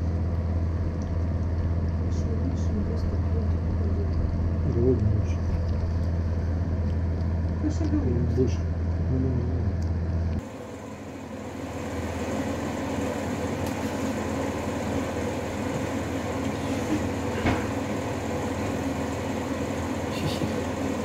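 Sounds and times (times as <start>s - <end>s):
fan heater whirring: 0.0s - 21.0s.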